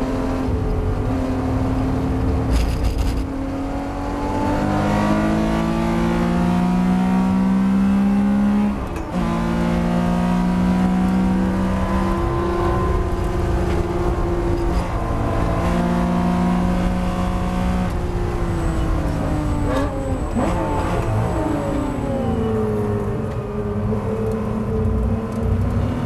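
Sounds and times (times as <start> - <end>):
car engine revving at high revs: 0.0 - 26.0.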